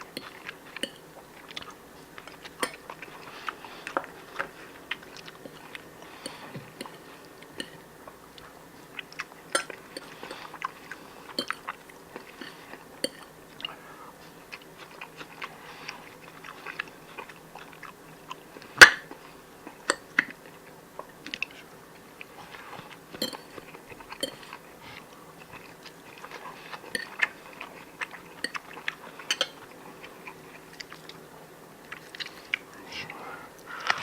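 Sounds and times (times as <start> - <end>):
person chewing and biting: 0.0 - 31.3
faint steady hum: 0.0 - 34.0.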